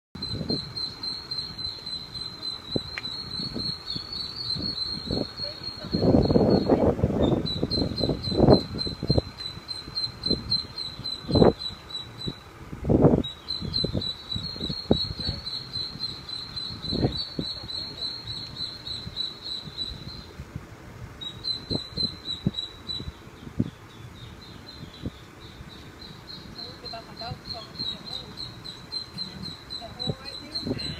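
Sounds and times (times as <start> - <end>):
ducklings peeping: 0.2 - 12.5, 13.2 - 20.3, 21.2 - 30.9.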